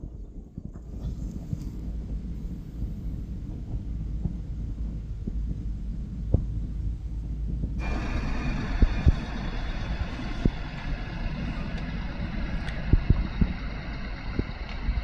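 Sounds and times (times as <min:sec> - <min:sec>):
steady hiss: 0:00.0 - 0:15.0
wind buffeting microphone: 0:00.0 - 0:15.0.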